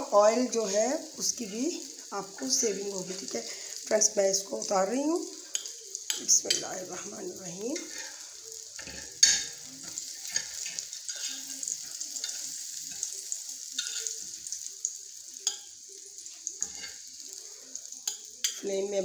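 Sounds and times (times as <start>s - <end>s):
hot oil sizzling in a frying pan: 0.0s - 19.0s.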